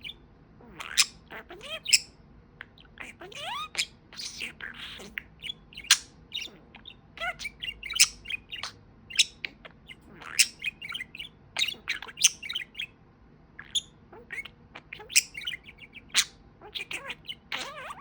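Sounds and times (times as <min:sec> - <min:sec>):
budgie chattering: 0:00.0 - 0:12.9, 0:13.6 - 0:18.0.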